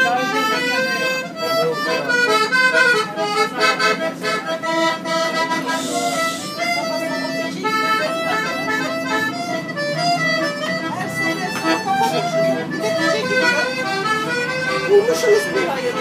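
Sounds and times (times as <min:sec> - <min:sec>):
accordion lively melody: 0:00.0 - 0:16.0.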